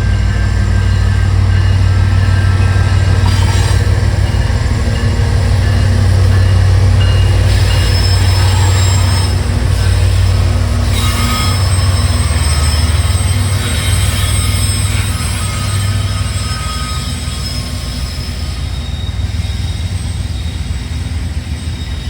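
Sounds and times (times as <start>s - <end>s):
rail and wheel noise: 0.0s - 22.0s
train rumbling past: 0.0s - 22.0s.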